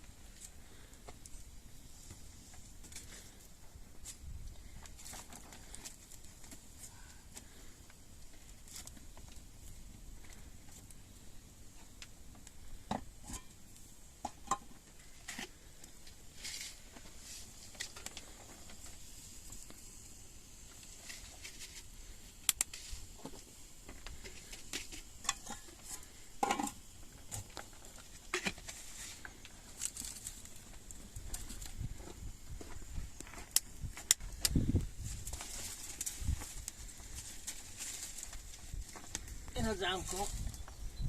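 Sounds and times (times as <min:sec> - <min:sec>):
faint high hiss: 0:00.0 - 0:41.0.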